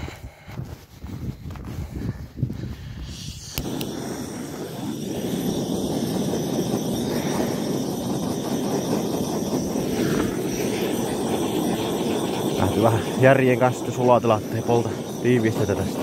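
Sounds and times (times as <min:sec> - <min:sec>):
gas torch flame burning: 0:02.8 - 0:16.0.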